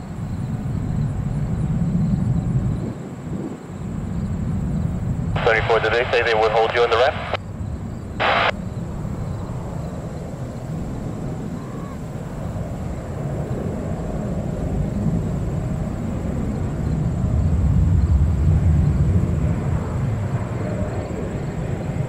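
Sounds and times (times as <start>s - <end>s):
jet engine rumble: 2.6s - 22.0s.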